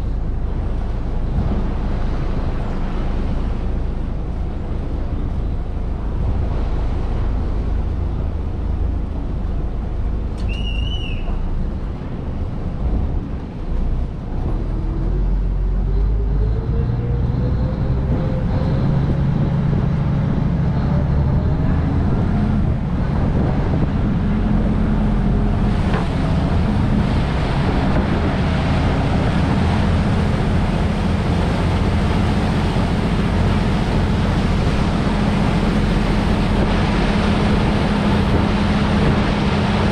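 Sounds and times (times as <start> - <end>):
boat engine running: 0.0 - 39.9
water and wind noise: 0.0 - 39.9.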